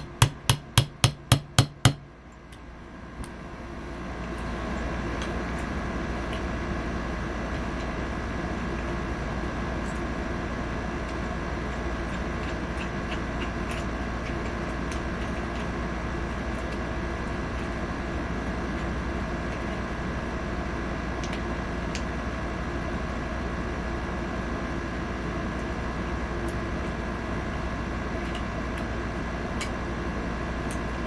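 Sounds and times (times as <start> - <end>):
steady droning hum: 0.0 - 31.0.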